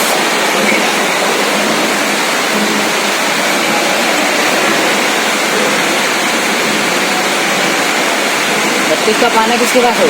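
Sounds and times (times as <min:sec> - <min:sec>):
workshop machine noise: 0:00.0 - 0:10.0.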